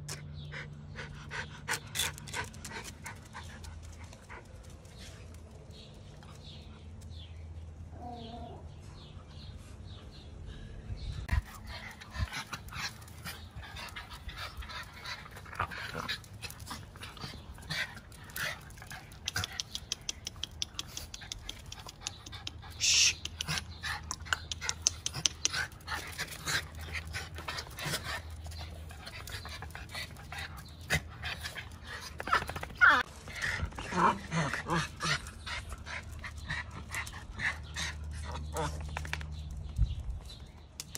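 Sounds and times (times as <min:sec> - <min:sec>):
dogs play-fighting: 0:00.0 - 0:07.3, 0:11.2 - 0:40.4.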